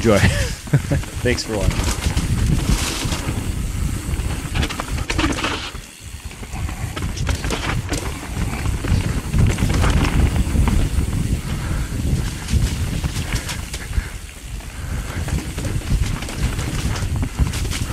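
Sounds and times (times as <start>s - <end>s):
mountain bike rattling on dirt trail: 0.0s - 17.9s
bike knocking over bumps: 0.8s - 17.9s.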